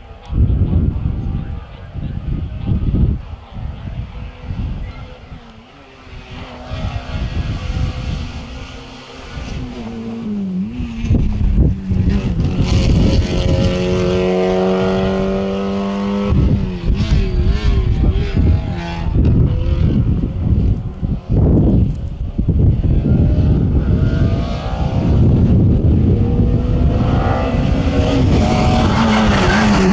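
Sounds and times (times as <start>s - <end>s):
rally car engine passing: 0.0s - 29.9s.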